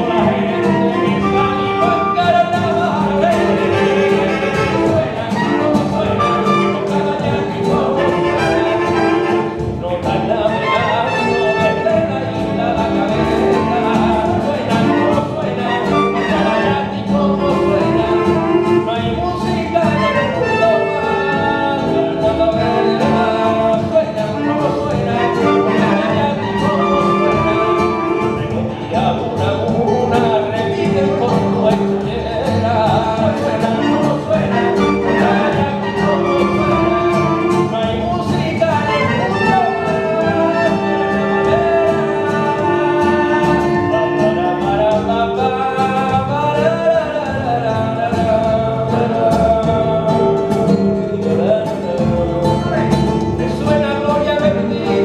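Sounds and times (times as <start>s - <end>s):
live band playing rumba: 0.0s - 55.0s
voices singing: 0.0s - 55.0s.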